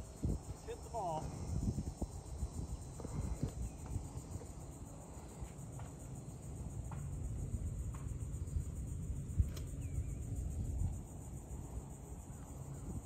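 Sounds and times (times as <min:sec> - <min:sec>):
wind rumble on microphone: 0:00.0 - 0:05.4, 0:06.6 - 0:13.0
insect chirring: 0:00.0 - 0:13.0.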